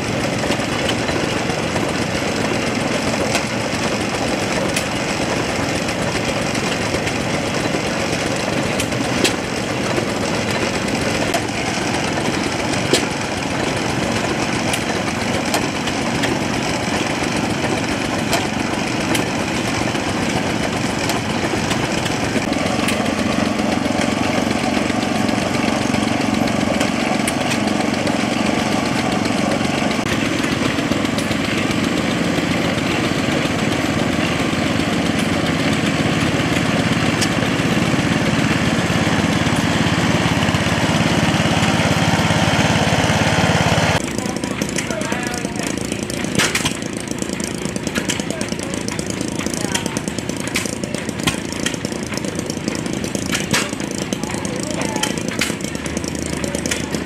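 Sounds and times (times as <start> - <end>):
hay baler clunks: 0.0 - 57.0
small gasoline engine running: 0.0 - 57.0.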